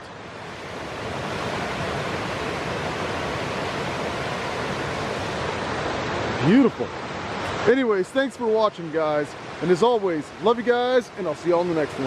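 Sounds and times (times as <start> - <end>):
water rushing over rock ledge: 0.0 - 12.0.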